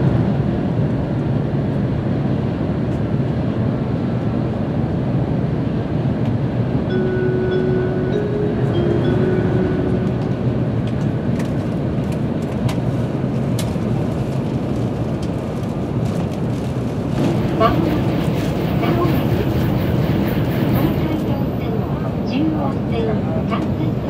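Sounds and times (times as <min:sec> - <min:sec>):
train rumble and rush: 0:00.0 - 0:24.0.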